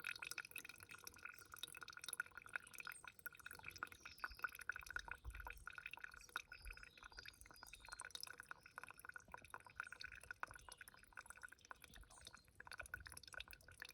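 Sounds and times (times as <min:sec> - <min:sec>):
water dripping and trickling: 0:00.0 - 0:13.9.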